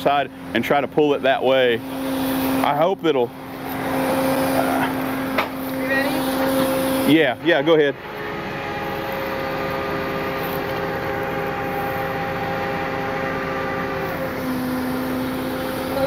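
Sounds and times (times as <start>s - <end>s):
hydraulic winch whining: 0.0s - 16.0s
truck engine idling: 0.0s - 16.0s.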